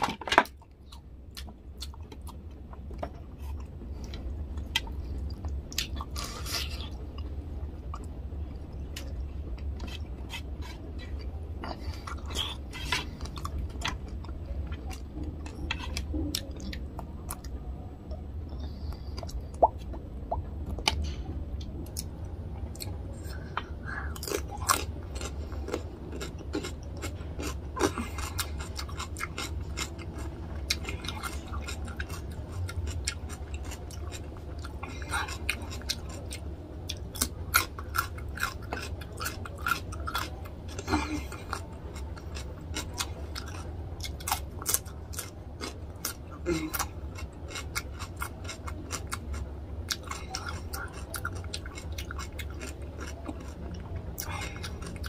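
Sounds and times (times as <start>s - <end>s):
chewing and crunching cucumber: 0.0s - 17.7s, 18.6s - 55.0s
low hum: 0.0s - 55.0s.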